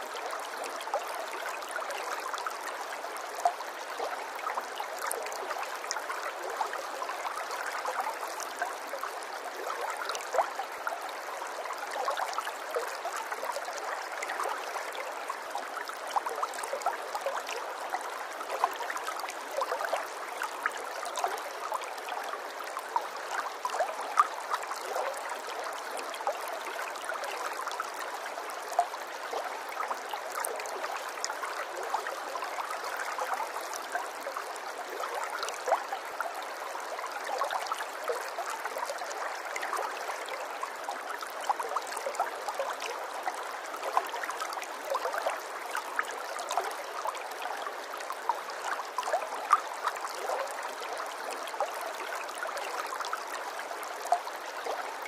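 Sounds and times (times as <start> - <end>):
water trickling and babbling: 0.0 - 55.0.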